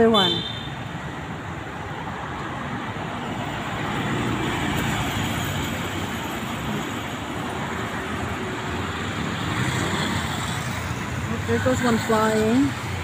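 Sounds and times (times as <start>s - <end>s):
city road traffic: 0.0s - 13.0s.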